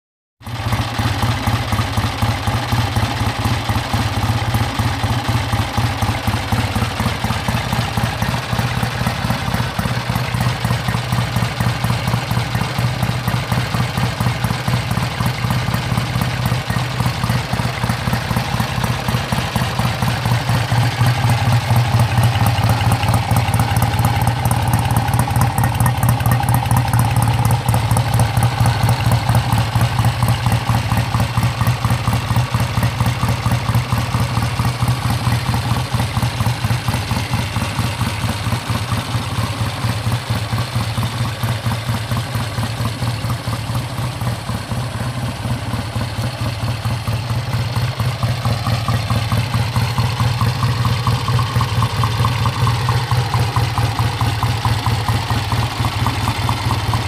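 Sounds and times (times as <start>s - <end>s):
motorcycle engine idling: 0.4s - 57.0s.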